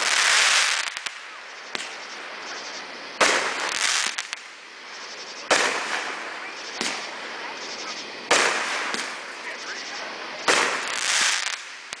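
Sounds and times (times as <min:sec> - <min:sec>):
small firework pops: 0:00.0 - 0:09.8, 0:10.4 - 0:12.0
fireworks bangs with fizz: 0:00.0 - 0:12.0.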